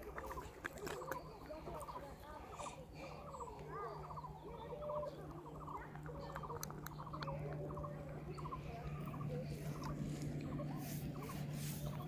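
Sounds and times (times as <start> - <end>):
steady low hum: 0.0 - 12.0
animal chattering trills: 0.1 - 12.0.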